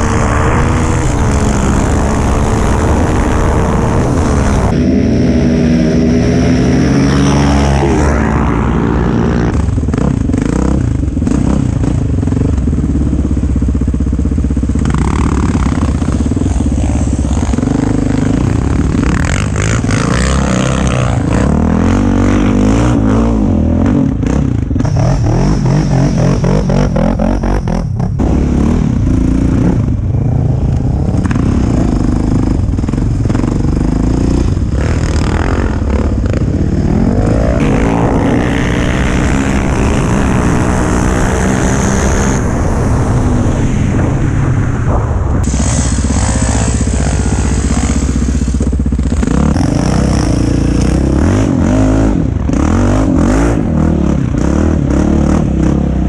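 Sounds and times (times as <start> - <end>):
quad engines revving: 0.0 - 44.3, 45.4 - 56.0.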